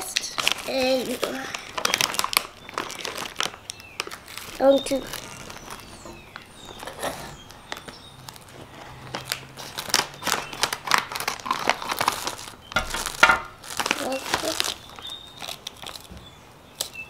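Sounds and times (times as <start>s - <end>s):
plastic snack bag crinkling: 0.0s - 16.2s.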